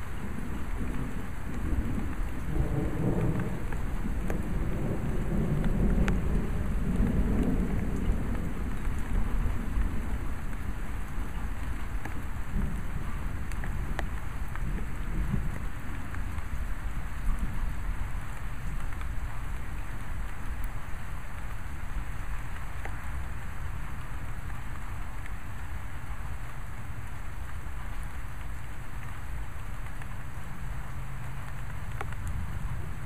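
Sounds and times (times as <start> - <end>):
low rumble of thunder: 0.0 - 25.2, 27.4 - 33.0
raindrops ticking near microphone: 0.0 - 33.0
steady rain: 0.0 - 33.0.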